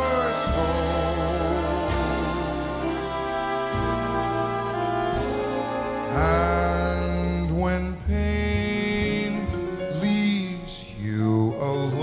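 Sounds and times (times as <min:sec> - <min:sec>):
jazz orchestra horn chords: 0:00.0 - 0:12.0.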